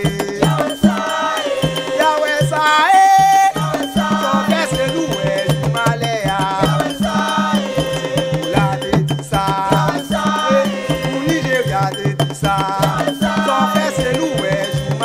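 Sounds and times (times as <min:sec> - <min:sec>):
voices singing folk melody: 0:00.0 - 0:15.0.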